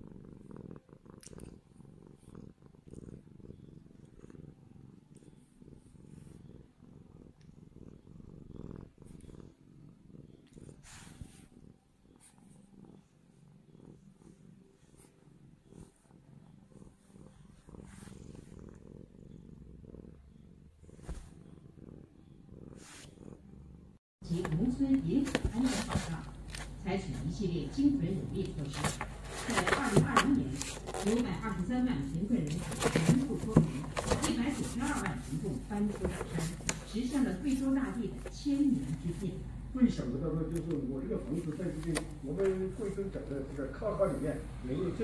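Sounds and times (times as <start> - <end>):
cat purring: 0.0 - 45.0.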